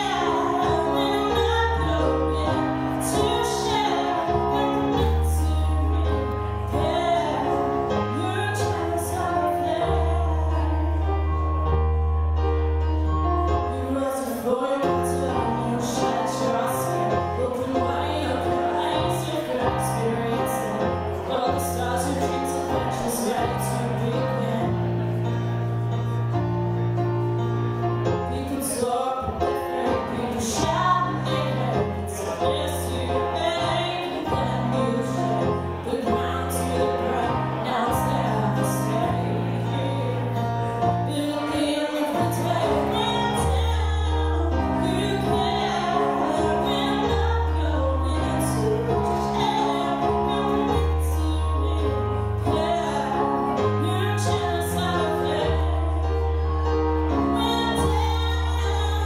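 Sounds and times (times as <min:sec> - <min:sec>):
woman singing: 0:00.0 - 0:11.5, 0:13.6 - 0:25.4, 0:28.1 - 0:59.0
digital piano chords: 0:00.0 - 0:59.0.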